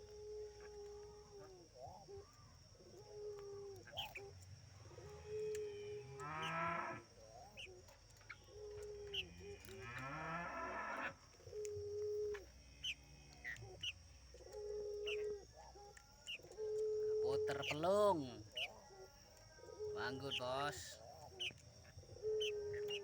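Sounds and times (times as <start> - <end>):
small birds chirping: 0.0 - 10.1, 10.9 - 23.0
dove cooing: 0.0 - 23.0.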